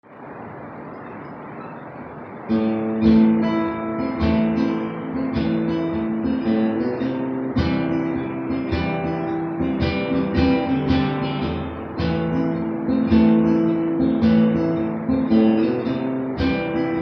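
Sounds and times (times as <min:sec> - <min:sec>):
recording hiss: 0:00.0 - 0:17.0
acoustic guitar strumming chords: 0:01.1 - 0:17.0.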